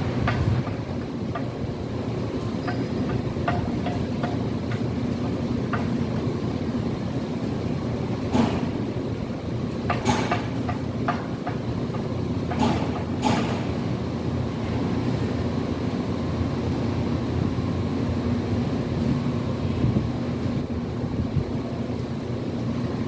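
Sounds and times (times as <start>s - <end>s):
machinery rumble: 0.0s - 23.0s.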